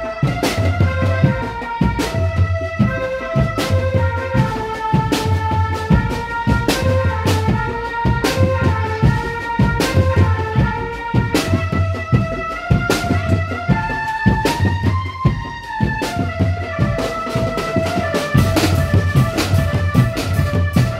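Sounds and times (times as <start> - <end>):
drum band music: 0.0 - 20.9.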